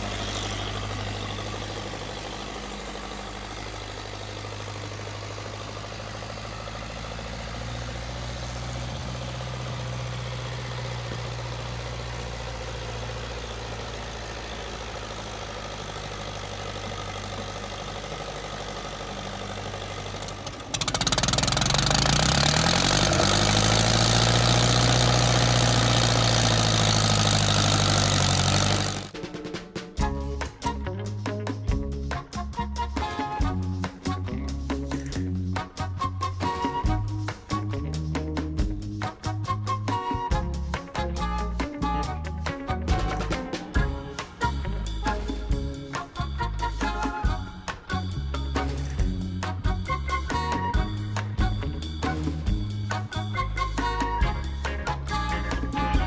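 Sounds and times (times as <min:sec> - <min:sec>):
tractor engine running and revving: 0:00.0 - 0:29.3, 0:30.0 - 0:56.0.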